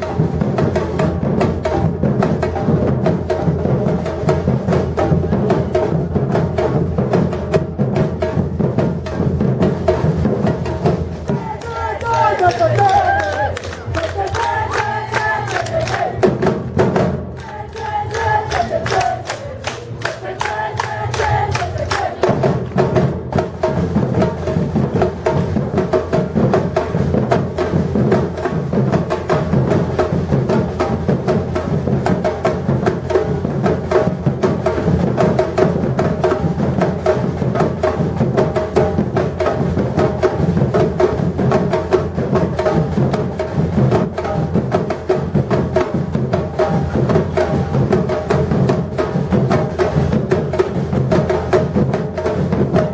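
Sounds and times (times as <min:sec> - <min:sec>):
samba drum ensemble: 0:00.0 - 0:52.9
wood-block beats: 0:06.6 - 0:52.9.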